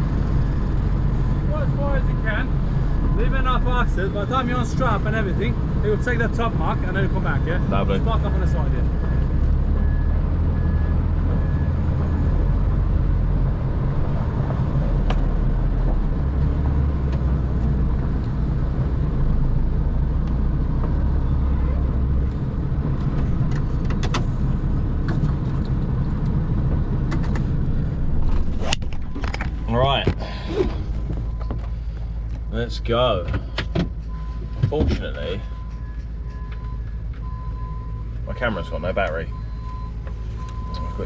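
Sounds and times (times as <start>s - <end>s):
lorry diesel engine at low revs: 0.0s - 41.0s.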